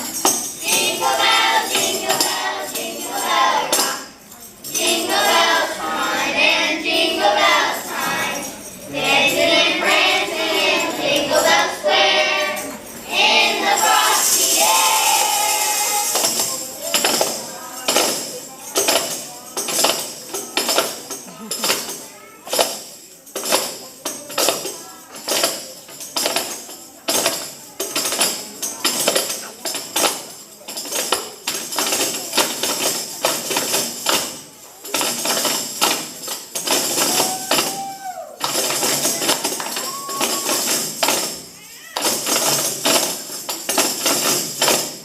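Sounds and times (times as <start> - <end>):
tambourine jingling: 0.0 - 45.0.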